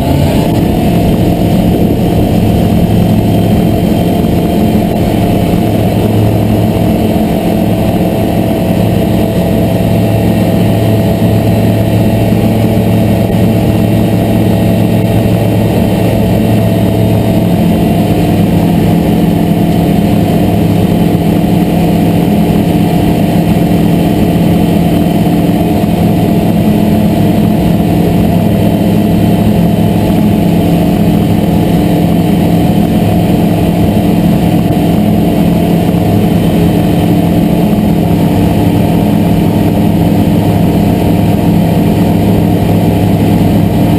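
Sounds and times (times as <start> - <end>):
light aircraft engine and propeller: 0.0 - 43.9.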